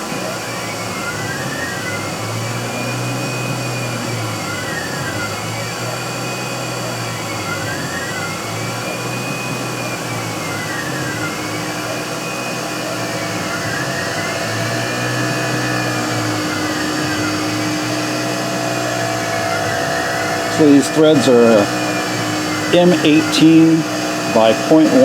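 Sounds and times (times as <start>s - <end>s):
cnc mill cutting with whine: 0.0s - 25.0s.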